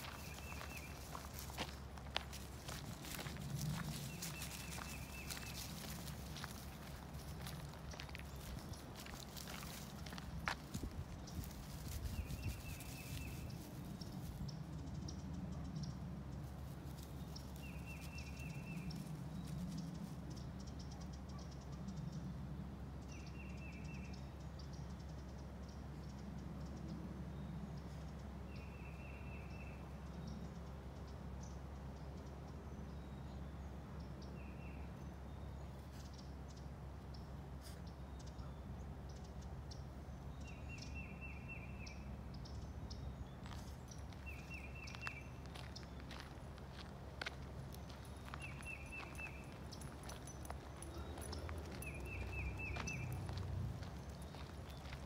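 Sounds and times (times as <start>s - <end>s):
low outdoor hum: 0.0s - 55.0s.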